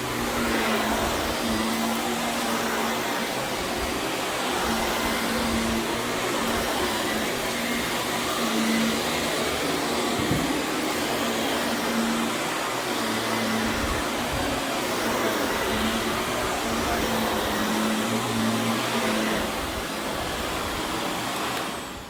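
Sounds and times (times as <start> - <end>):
vacuum cleaner on carpet: 0.0 - 22.0.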